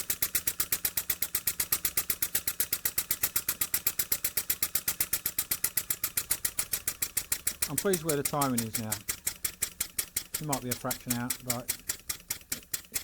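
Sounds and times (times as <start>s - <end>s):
model steam engine chuffing: 0.0s - 13.0s.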